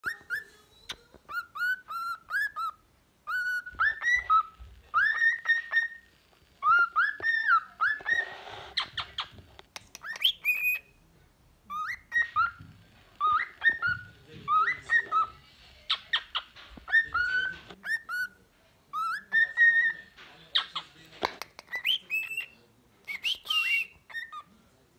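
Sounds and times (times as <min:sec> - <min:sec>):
cockatiel whistling song: 0:00.0 - 0:09.4, 0:10.0 - 0:11.0, 0:11.7 - 0:12.6, 0:13.2 - 0:20.9, 0:21.7 - 0:24.5.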